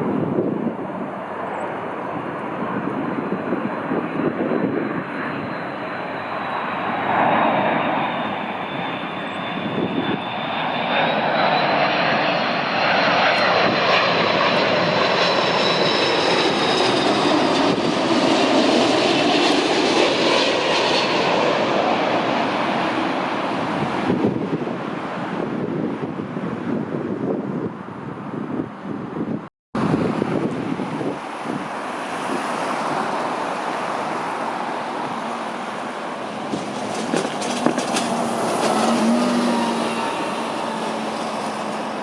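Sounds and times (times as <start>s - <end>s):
jet airliner engines rumbling: 0.0s - 42.0s.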